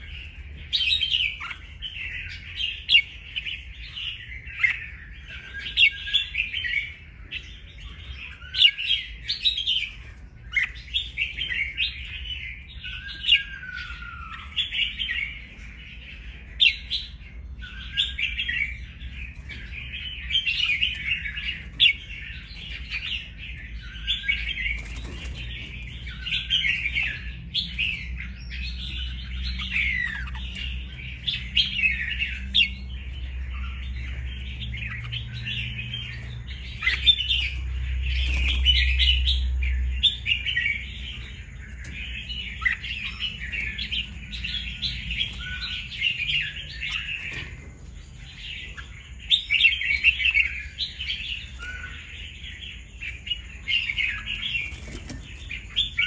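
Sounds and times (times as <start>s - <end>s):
bird singing and chattering: 0.0s - 56.0s.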